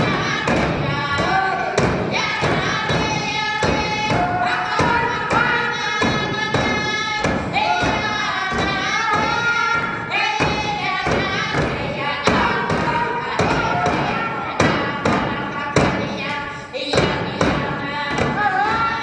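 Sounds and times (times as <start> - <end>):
frame drums beating: 0.0 - 16.3, 16.9 - 19.0
group singing long notes: 0.0 - 19.0.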